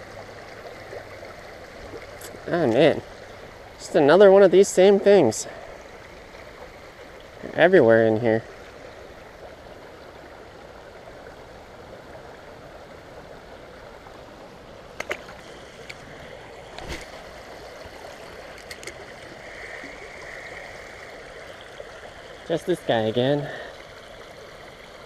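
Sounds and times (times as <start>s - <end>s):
water running over rocks: 0.0s - 25.0s.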